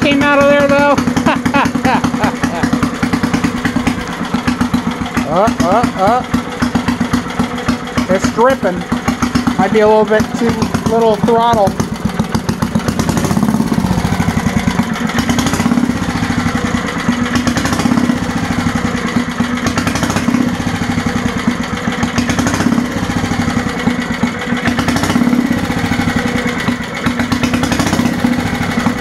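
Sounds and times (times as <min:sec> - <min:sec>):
small engine running at low throttle: 0:00.0 - 0:29.0.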